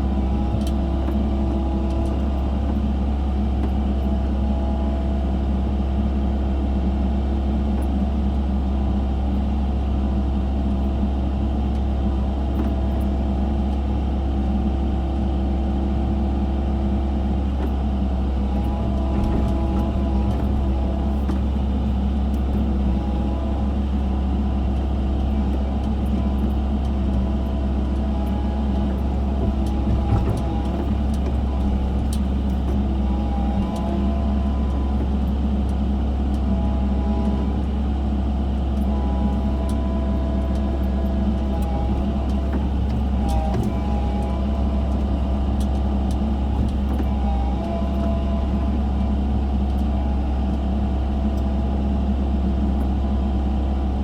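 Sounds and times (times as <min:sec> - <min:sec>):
construction machine engine under load: 0:00.0 - 0:54.0.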